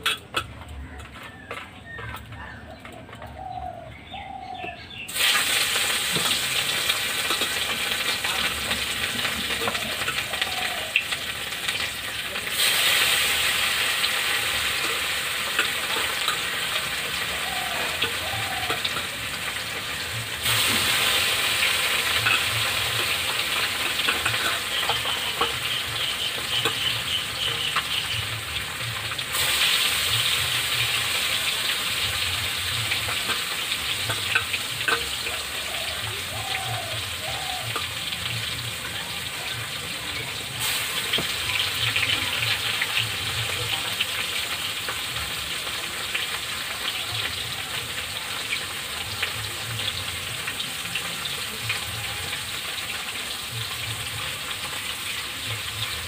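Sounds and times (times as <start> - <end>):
fish sizzling in hot oil: 4.7 - 56.0.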